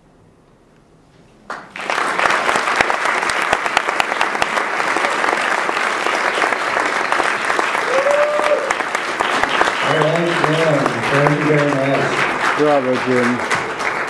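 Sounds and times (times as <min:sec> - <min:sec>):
audience clapping: 0:01.5 - 0:14.0.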